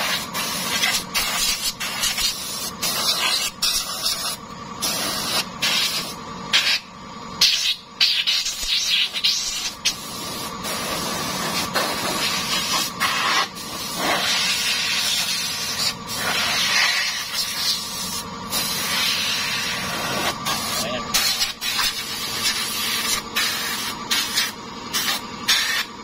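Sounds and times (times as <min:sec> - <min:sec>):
compressed air hissing from blow-gun: 0:00.0 - 0:06.8, 0:07.4 - 0:25.9.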